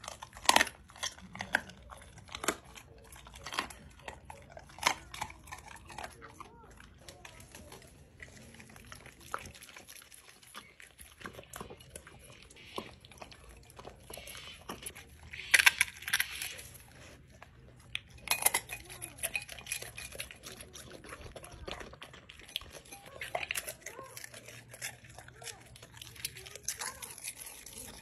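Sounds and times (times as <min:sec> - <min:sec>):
dog licking and chewing: 0:00.0 - 0:28.0.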